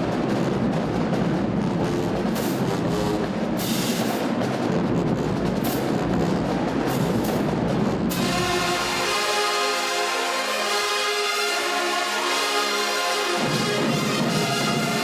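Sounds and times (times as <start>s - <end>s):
loud drum-driven music: 0.0s - 15.0s.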